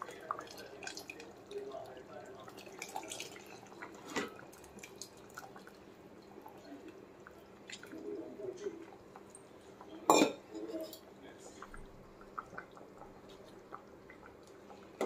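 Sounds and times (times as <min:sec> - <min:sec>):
water trickling into pot: 0:00.0 - 0:15.0.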